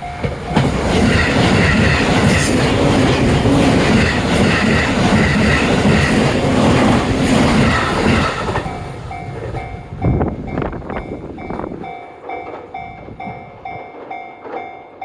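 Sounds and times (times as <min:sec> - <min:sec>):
crossing warning bell ringing: 0:00.0 - 0:15.0
train wheels clattering over joints: 0:00.0 - 0:15.0.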